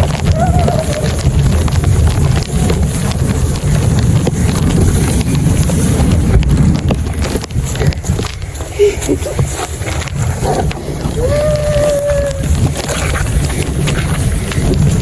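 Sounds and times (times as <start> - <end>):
crunches and scrapes in snow: 0.0 - 15.0
wind buffeting microphone: 0.0 - 15.0.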